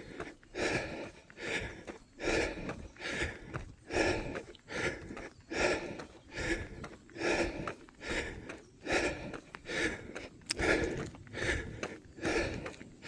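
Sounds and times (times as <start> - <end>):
runner breathing heavily: 0.0 - 13.0.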